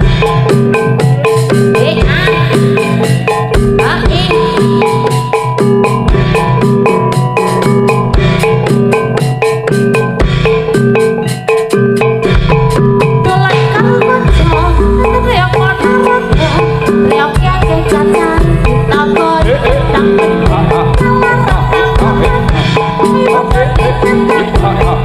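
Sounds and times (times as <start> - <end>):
drums: 0.0 - 25.0
gamelan metallophones: 0.0 - 25.0.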